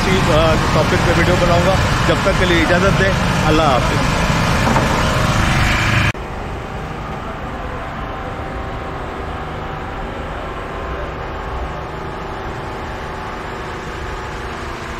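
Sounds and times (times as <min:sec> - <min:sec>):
low hum: 0:00.0 - 0:14.9
traffic din: 0:00.0 - 0:14.9.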